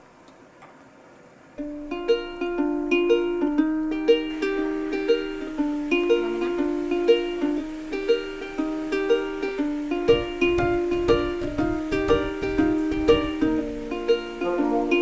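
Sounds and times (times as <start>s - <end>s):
light plucked-string tune: 1.6s - 15.0s.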